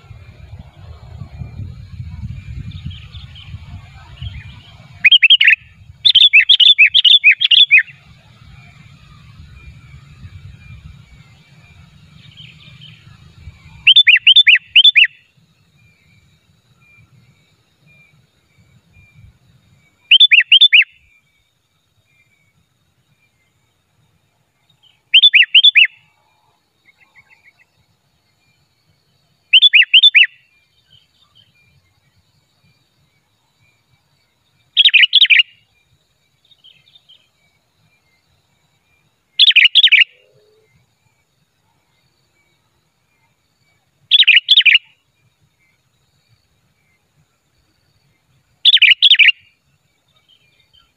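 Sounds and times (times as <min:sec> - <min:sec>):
faint bird chirping: 0:00.0 - 0:50.9
bulbul whistled song: 0:01.2 - 0:21.4, 0:24.8 - 0:26.1, 0:28.3 - 0:47.1, 0:48.0 - 0:50.9.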